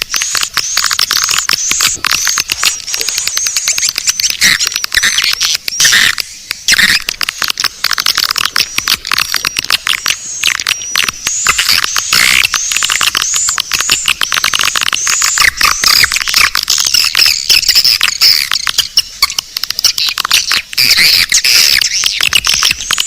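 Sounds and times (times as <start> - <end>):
swiftlets chirping and twittering: 0.0 - 23.0.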